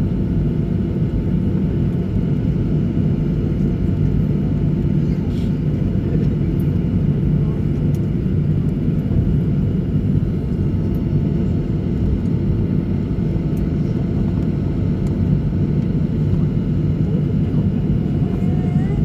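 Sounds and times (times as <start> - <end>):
airliner engines rumbling: 0.0 - 19.0.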